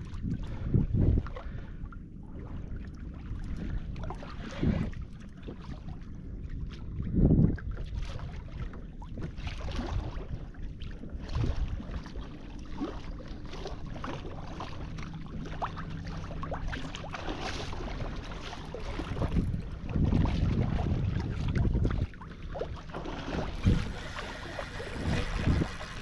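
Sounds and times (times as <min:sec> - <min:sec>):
water lapping against hull: 0:00.0 - 0:26.0.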